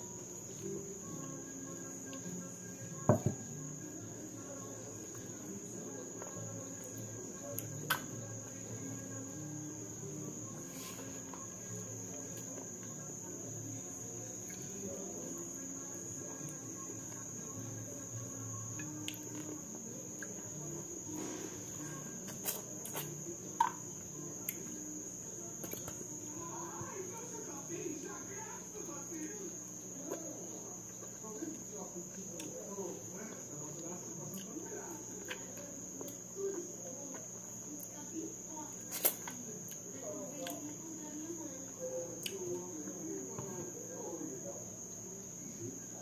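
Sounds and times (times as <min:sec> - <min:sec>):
cricket-like trill: 0:00.0 - 0:46.0
faint low hum: 0:00.0 - 0:46.0.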